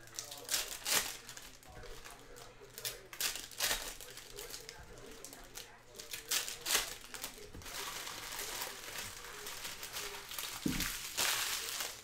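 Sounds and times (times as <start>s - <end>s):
trading cards rustling: 0.0s - 12.0s.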